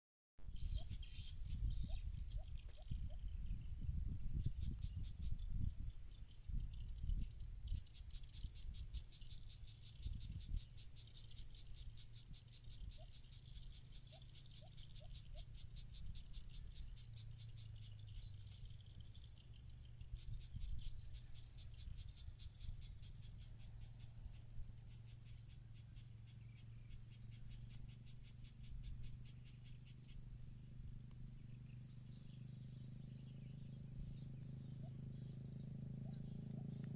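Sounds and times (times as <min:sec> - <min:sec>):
wind rumble on microphone: 0:00.4 - 0:36.9
insects chirring: 0:04.3 - 0:36.9.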